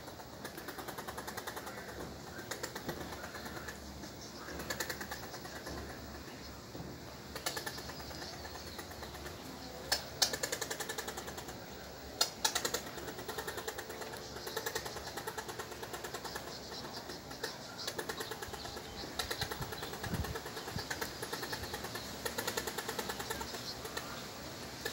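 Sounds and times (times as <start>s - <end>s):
sharp clicks: 0.0s - 3.8s, 4.4s - 6.4s, 7.3s - 24.2s
squirrel chattering: 0.0s - 24.9s.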